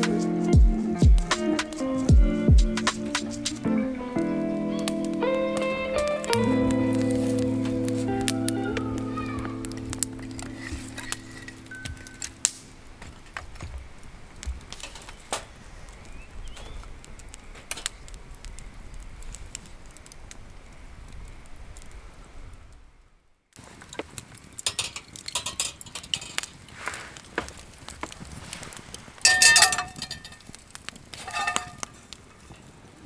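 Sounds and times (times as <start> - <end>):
low fire hiss: 0.0 - 33.0
wood fire crackling and popping: 0.0 - 33.0.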